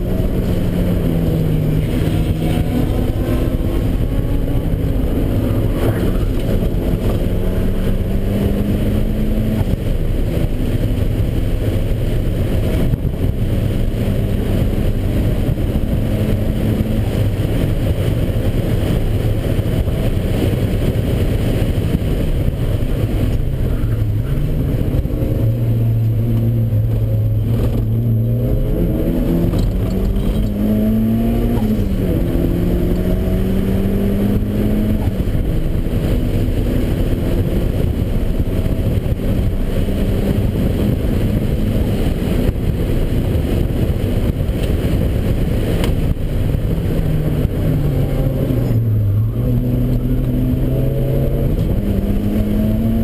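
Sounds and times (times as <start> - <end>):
car engine revving: 0.0 - 53.0
road and wind noise: 0.0 - 53.0.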